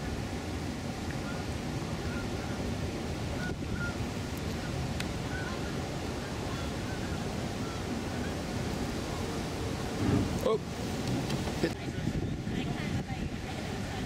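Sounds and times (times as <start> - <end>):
river water: 0.0 - 14.0
wind on microphone: 0.0 - 14.0.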